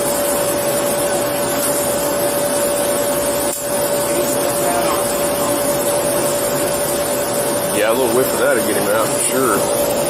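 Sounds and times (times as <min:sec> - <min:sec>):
mechanical hum and hiss: 0:00.0 - 0:10.0
constant mid-pitched tone: 0:00.2 - 0:10.0.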